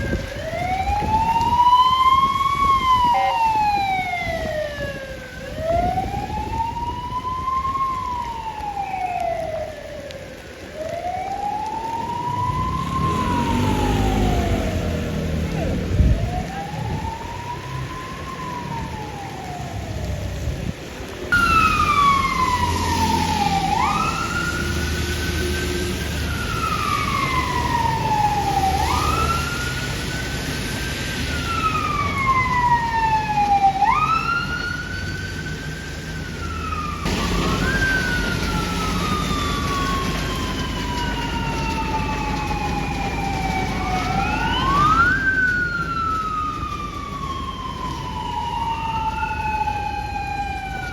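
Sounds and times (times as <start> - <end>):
fire truck sirens wailing: 0.0 - 50.9.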